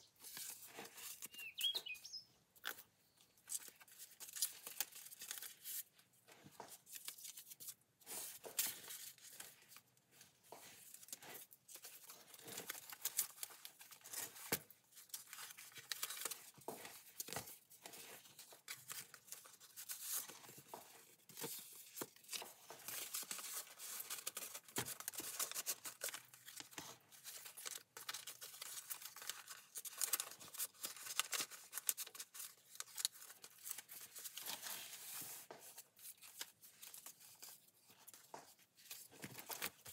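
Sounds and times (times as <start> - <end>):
paper rustling and crinkling: 0.0 - 1.4, 2.6 - 39.9.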